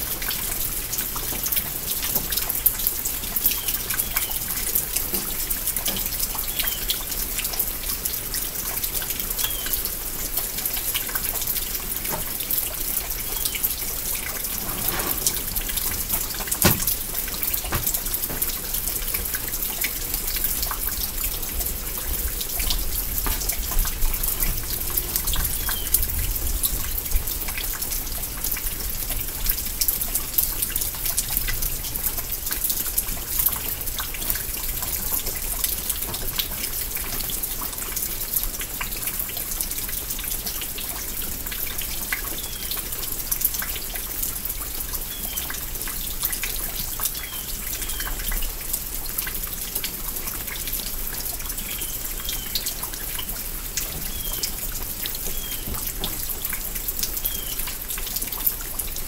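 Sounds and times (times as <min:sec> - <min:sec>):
light rain falling: 0:00.0 - 0:59.0
raindrops ticking: 0:00.0 - 0:59.0.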